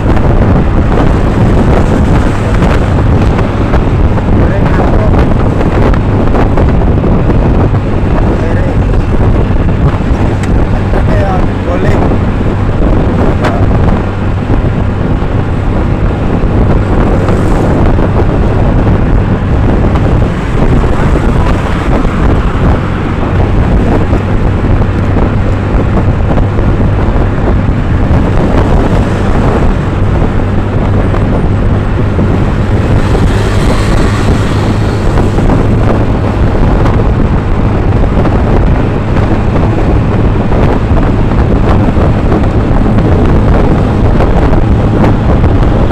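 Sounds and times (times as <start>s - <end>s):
vehicle engine drone: 0.0s - 45.9s
wind buffeting microphone: 0.0s - 45.9s.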